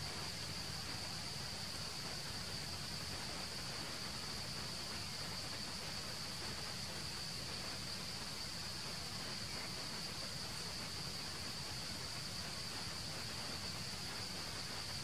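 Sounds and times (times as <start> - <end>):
background hiss: 0.0 - 15.0
insects droning: 0.0 - 15.0.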